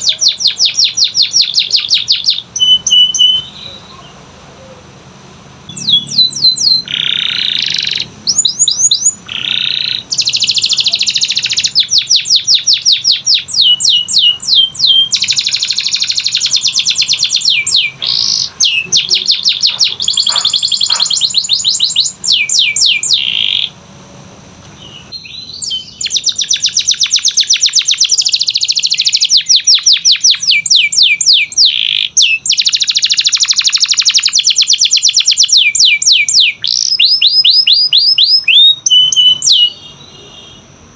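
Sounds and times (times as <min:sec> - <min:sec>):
canary singing trills: 0:00.0 - 0:05.0, 0:05.6 - 0:23.8, 0:24.7 - 0:40.9.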